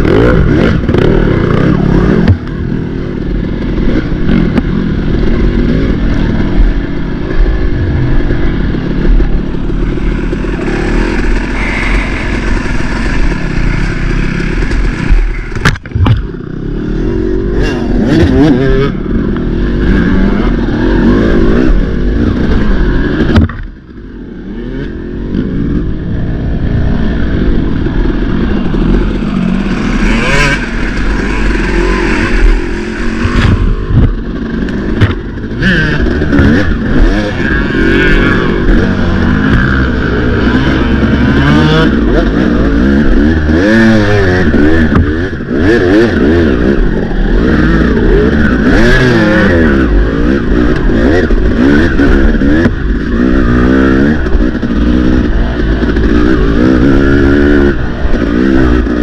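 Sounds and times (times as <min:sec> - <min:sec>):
racing engine revving: 0:00.0 - 0:23.5, 0:26.6 - 0:59.0.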